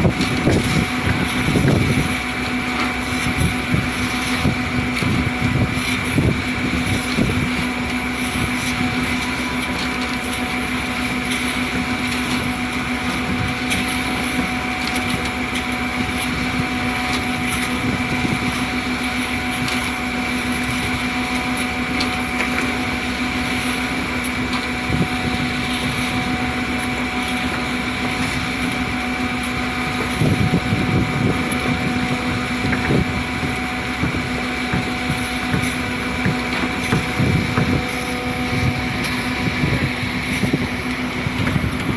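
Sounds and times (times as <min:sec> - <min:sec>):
concrete pump machine hum: 0:00.0 - 0:41.9.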